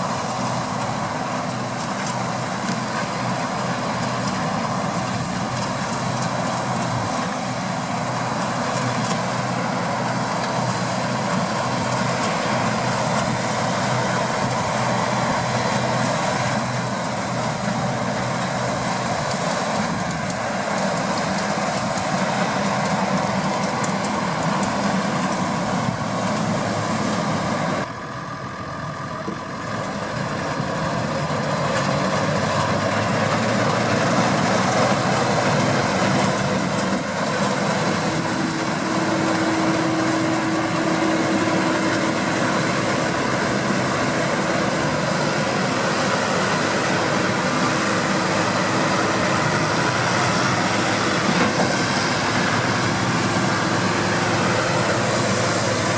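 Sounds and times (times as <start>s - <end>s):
combine harvester running: 0.0s - 55.9s
steady mechanical whine: 0.0s - 55.9s.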